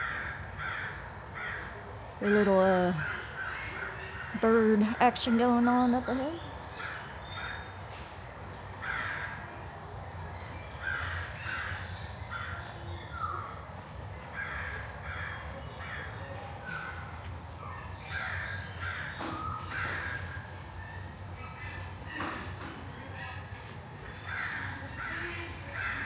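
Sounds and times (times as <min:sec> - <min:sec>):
birds calling harshly: 0:00.0 - 0:08.1, 0:08.8 - 0:23.4, 0:24.0 - 0:26.0.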